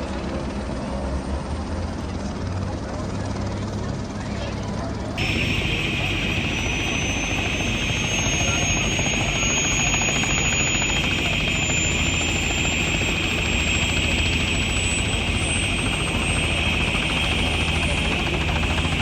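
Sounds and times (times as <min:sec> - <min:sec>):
helicopter rotor and turbine whine: 0:00.0 - 0:19.0.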